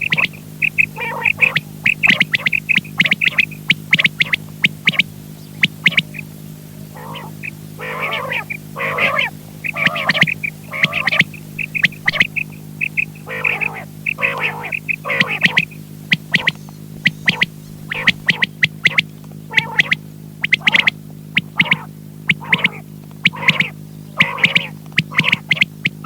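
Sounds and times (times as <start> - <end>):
harsher fuller bird calls: 0.0 - 26.0
quail high repeated notes: 0.0 - 26.0
steady electrical hum: 0.0 - 26.0.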